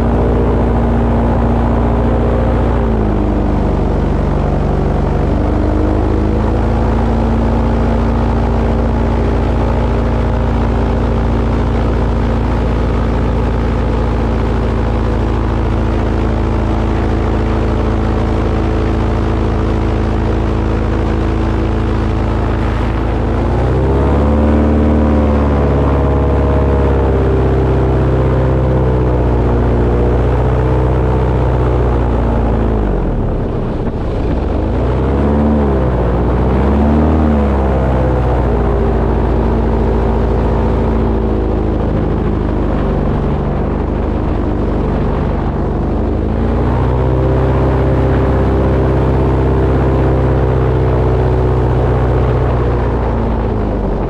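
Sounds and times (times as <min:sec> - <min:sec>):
engine running under load: 0:00.0 - 0:54.0.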